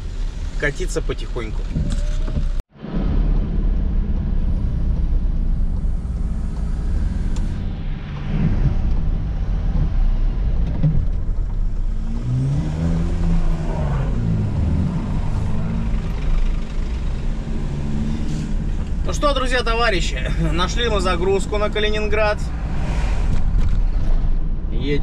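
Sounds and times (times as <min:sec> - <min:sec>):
diesel van engine: 0:00.0 - 0:25.0
road noise: 0:00.0 - 0:25.0.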